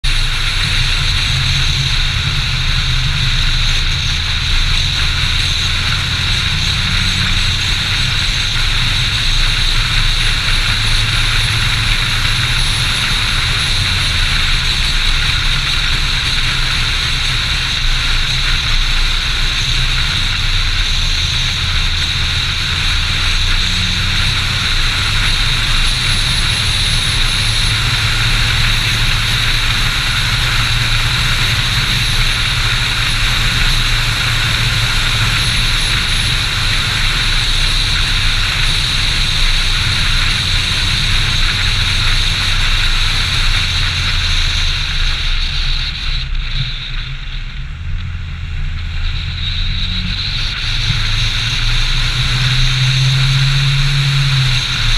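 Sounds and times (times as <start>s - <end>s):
car engine hum: 0.0s - 54.9s.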